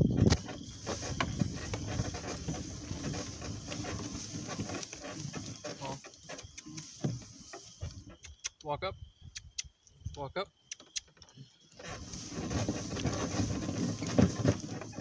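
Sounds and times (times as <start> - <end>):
high drone of insects: 0.0 - 15.0.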